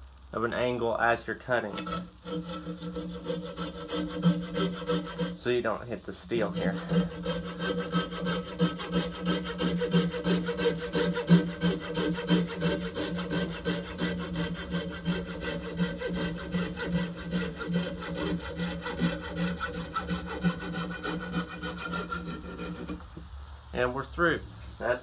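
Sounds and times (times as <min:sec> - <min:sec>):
hacksaw cutting wood: 0:01.6 - 0:23.1.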